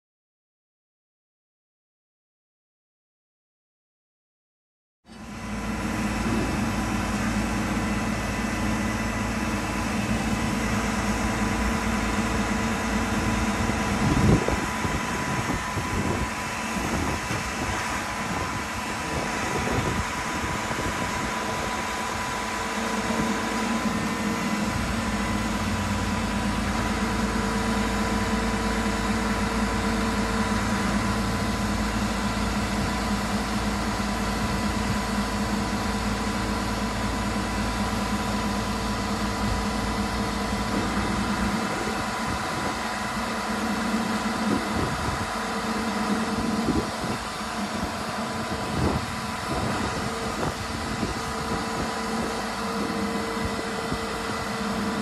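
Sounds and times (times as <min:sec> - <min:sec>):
diesel engines idling: 0:05.1 - 0:55.0.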